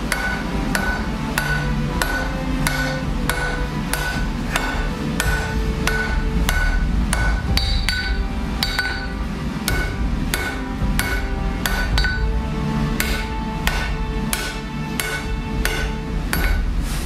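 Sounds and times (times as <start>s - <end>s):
hammer striking steel on anvil: 0.0s - 17.0s.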